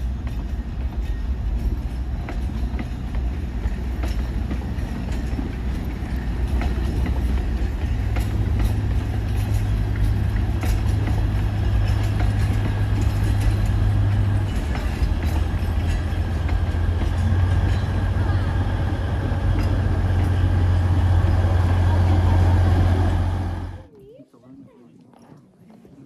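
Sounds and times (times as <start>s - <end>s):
diesel locomotive drone: 0.0s - 23.9s
wheels clicking on track: 0.0s - 23.9s.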